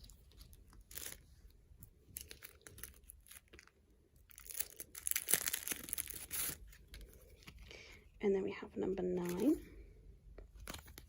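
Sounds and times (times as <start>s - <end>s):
plastic packaging crinkling: 0.0s - 7.8s, 9.2s - 9.7s, 10.4s - 11.0s.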